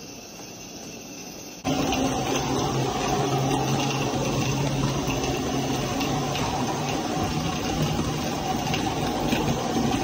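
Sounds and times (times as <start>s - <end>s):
steam locomotive hiss and rumble: 0.0s - 10.0s.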